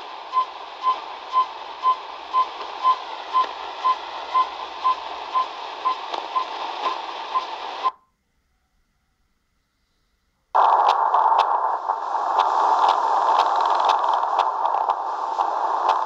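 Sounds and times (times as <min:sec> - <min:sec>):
radio static hiss: 0:00.0 - 0:07.9, 0:10.6 - 0:16.0.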